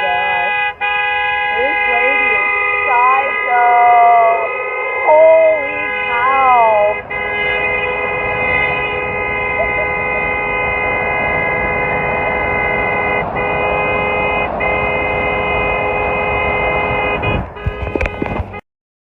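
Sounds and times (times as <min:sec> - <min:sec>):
car horn blast: 0:00.0 - 0:18.6.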